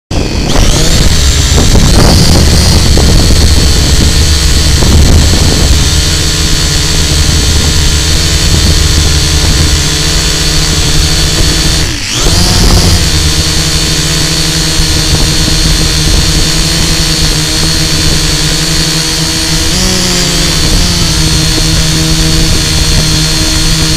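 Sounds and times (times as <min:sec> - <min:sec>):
drone motors whining: 0:00.1 - 0:23.9.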